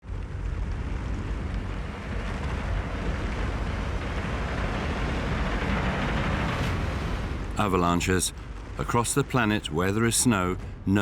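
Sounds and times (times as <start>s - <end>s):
avalanche rumbling: 0.0s - 11.0s.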